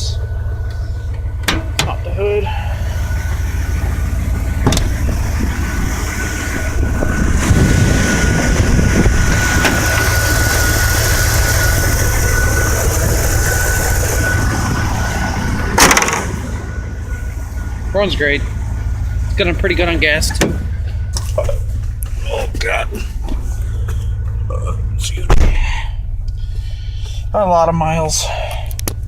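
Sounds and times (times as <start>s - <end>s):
thin steady whine: 0.0s - 29.0s
truck engine idling: 0.0s - 29.0s.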